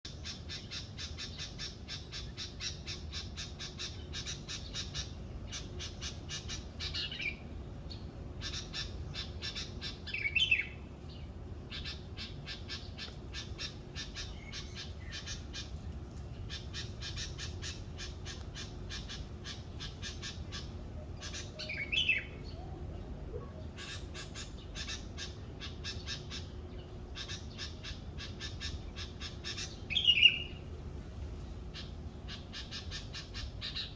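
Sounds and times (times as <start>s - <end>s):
harsh bird squawking: 0.1s - 7.5s, 8.3s - 10.8s, 11.6s - 15.8s, 16.4s - 30.8s, 31.6s - 33.9s
pulsing bird chirr: 0.1s - 15.7s, 16.4s - 30.8s, 31.6s - 33.9s.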